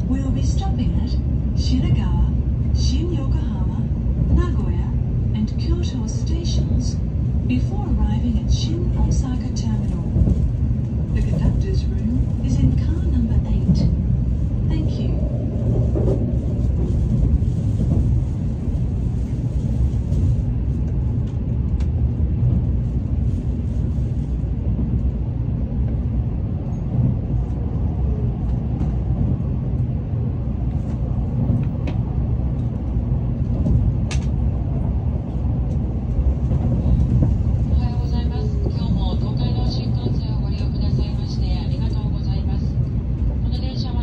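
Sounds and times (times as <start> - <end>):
train running low rumble: 0.0 - 44.0.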